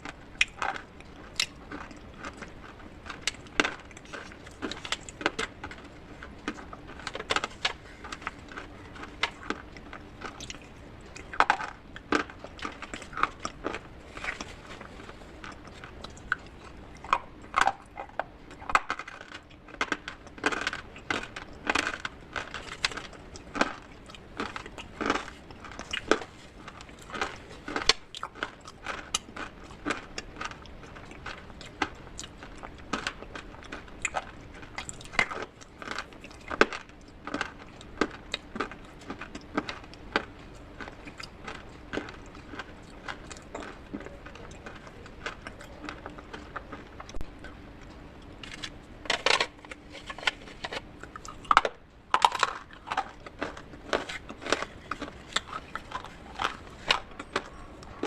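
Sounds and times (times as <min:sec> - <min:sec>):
brittle clay crunching: 0:00.0 - 0:58.0.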